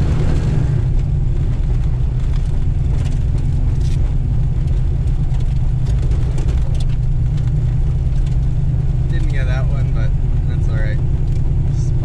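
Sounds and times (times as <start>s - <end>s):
car engine rumble: 0.0s - 12.0s
faint clicks and rattles: 0.9s - 11.6s.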